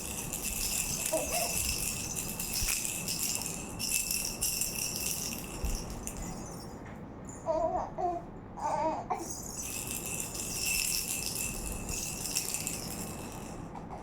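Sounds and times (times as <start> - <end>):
baby rattle jingling: 0.0 - 6.8, 9.1 - 13.7.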